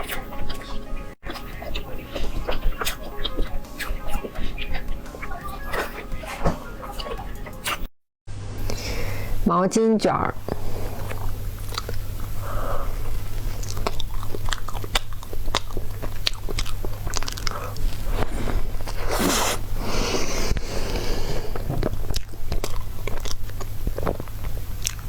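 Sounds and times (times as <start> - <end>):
chewing mouth sounds: 0.0 - 7.9, 10.5 - 19.6, 20.5 - 25.0.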